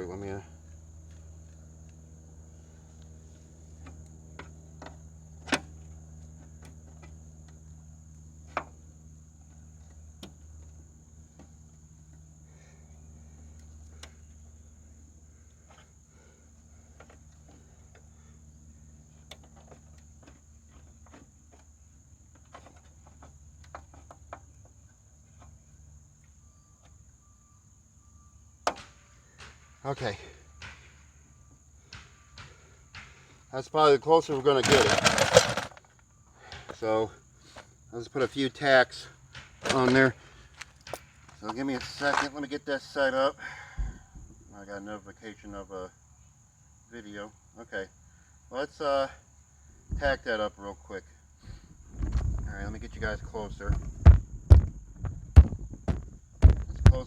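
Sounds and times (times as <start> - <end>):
crickets chirring: 0.0 - 57.0
steady low hum: 0.0 - 57.0.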